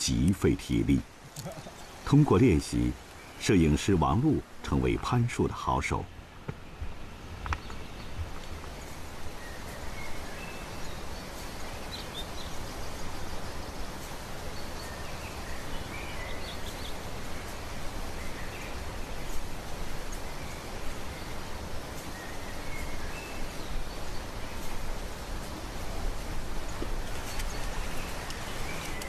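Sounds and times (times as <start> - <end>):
rustling hiss: 0.0 - 29.0.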